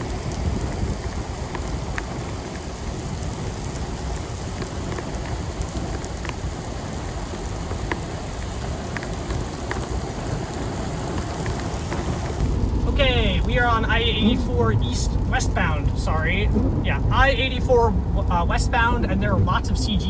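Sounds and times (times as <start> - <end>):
low steady rumble: 0.0 - 20.0
rain falling on a car: 0.0 - 20.0
raindrops ticking: 0.0 - 20.0.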